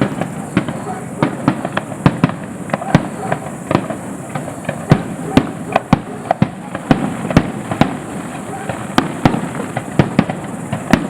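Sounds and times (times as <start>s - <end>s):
fireworks bangs and crackles: 0.0s - 11.0s
steady hiss: 0.0s - 11.0s.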